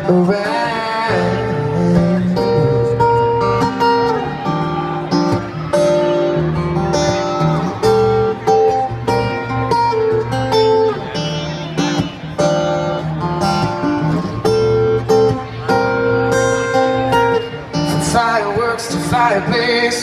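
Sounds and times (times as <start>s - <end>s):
bluesy guitar playing: 0.0s - 20.0s.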